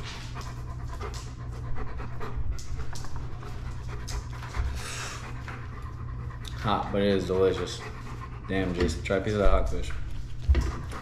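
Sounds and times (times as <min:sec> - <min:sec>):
dog panting: 0:00.0 - 0:11.0
steady low hum: 0:00.0 - 0:11.0.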